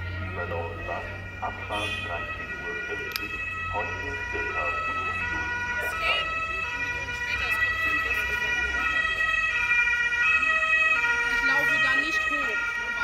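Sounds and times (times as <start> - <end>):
two-tone ambulance siren: 0.0 - 13.0.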